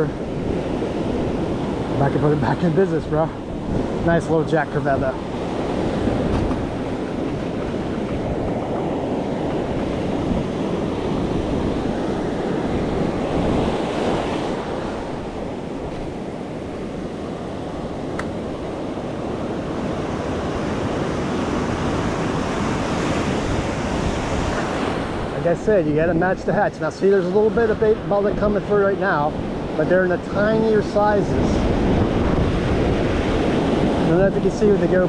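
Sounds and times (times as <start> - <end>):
ocean surf washing onto beach: 0.0 - 35.0
wind buffeting microphone: 0.0 - 35.0.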